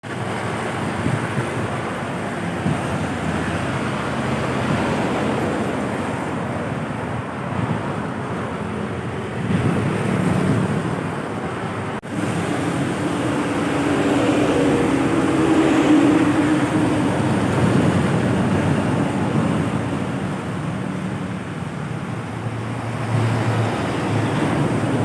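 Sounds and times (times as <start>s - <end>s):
steady engine drone: 0.0s - 25.0s
trucks and buses rumbling past: 0.0s - 25.0s.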